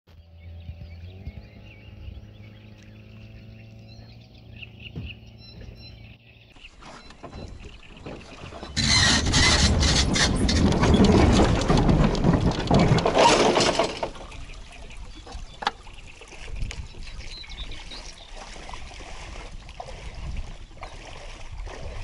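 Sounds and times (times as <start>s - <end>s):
water lapping and dripping: 0.7s - 22.0s
water rushing around boat: 0.7s - 22.0s.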